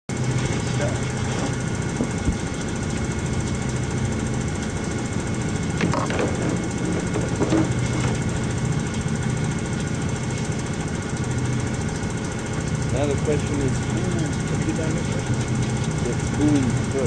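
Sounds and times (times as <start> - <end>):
boat engine running steadily: 0.1 - 17.0.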